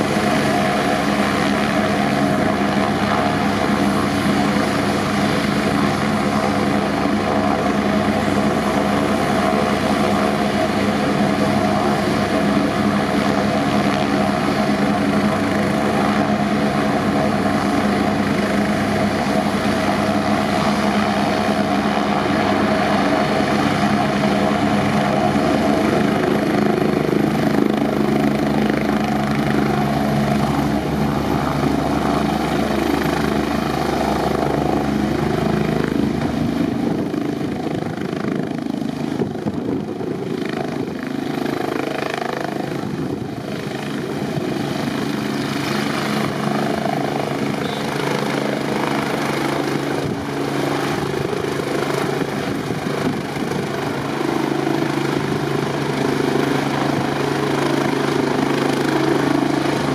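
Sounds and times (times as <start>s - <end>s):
helicopter engines and rotor: 0.0s - 59.9s.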